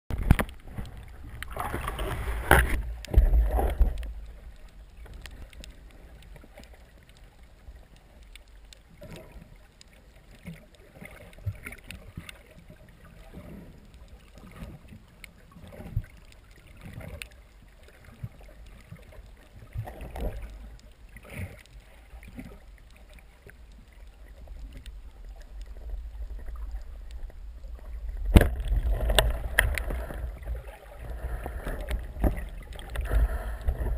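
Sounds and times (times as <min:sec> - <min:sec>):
muffled underwater rushing: 0:00.1 - 0:33.9.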